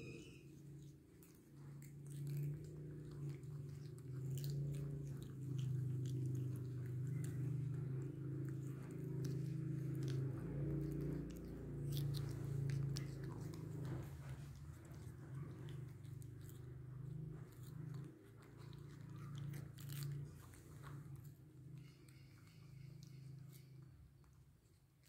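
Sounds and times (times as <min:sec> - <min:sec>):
monkey chewing cucumber: 0:00.0 - 0:25.0
steady low hum: 0:00.0 - 0:25.0.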